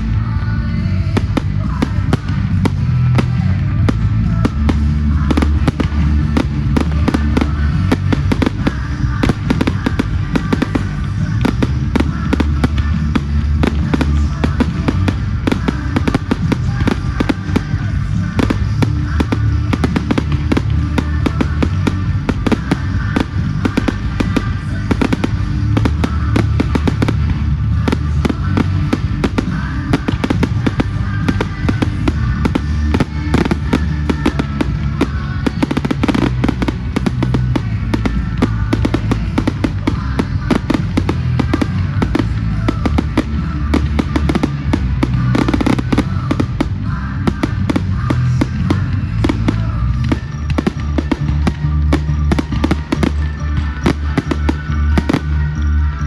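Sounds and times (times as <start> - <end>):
fireworks bursting and crackling: 0.0 - 56.0
music with heavy bass: 0.0 - 56.0.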